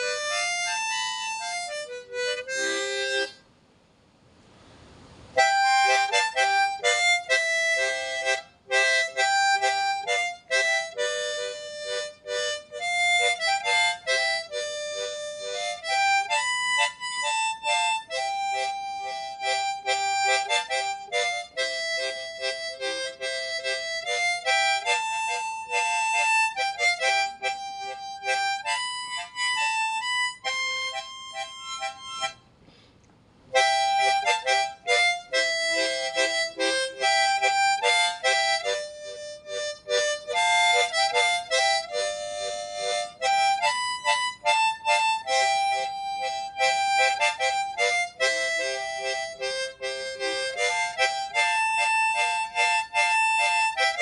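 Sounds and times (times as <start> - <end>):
harmonica playing melody: 0.0 - 3.4, 5.3 - 32.6, 33.5 - 54.0.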